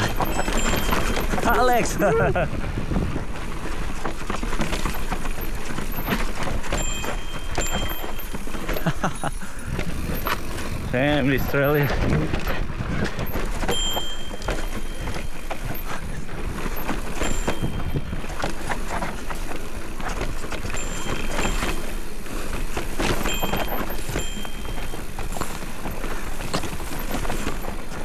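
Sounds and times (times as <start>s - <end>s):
bike frame and chain rattling: 0.0s - 28.0s.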